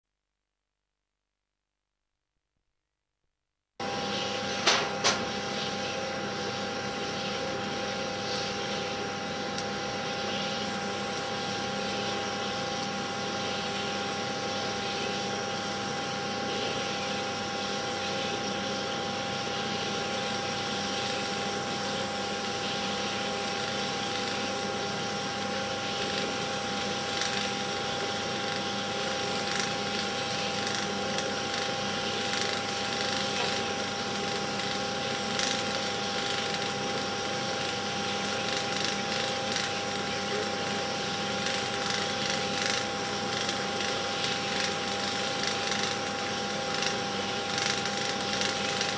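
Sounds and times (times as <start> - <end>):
film projector whirring: 3.8 - 48.9.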